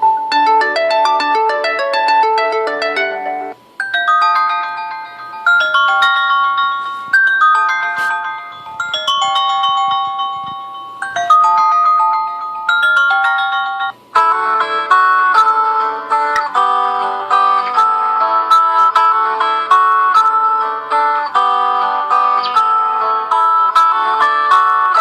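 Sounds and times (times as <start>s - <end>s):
phone ringtone melody: 0.0s - 25.0s.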